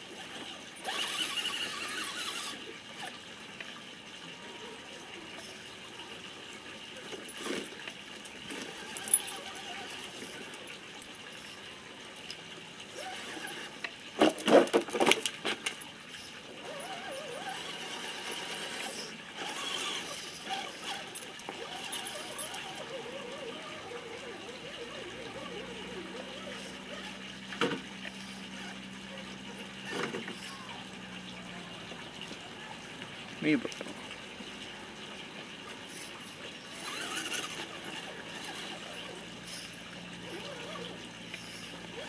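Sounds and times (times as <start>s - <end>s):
rc truck motor whining: 0.0s - 12.1s, 12.8s - 32.7s, 35.6s - 42.0s.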